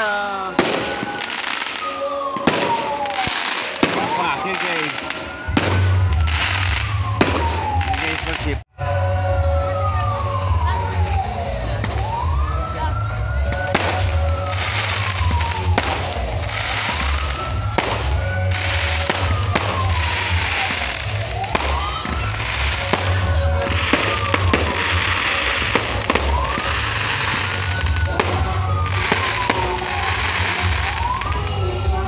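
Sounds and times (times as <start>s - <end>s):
fireworks bangs and crackling: 0.0s - 8.6s, 9.8s - 32.0s
siren wailing: 0.0s - 32.0s.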